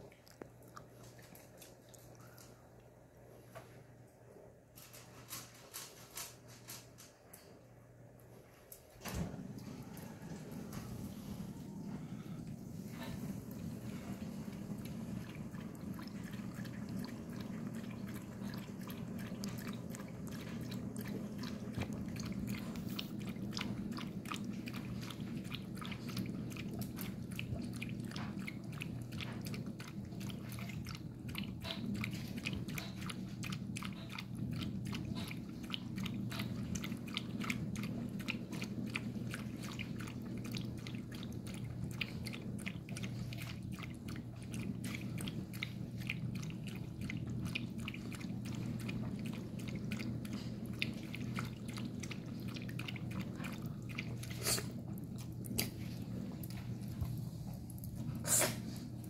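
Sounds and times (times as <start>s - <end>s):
dog lapping water: 0.0s - 2.8s, 9.2s - 59.0s
steady low hum: 0.0s - 59.0s.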